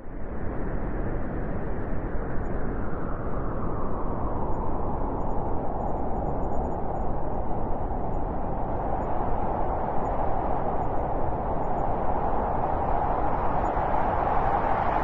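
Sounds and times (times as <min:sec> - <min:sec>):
strong wind through forest: 0:00.0 - 0:15.0.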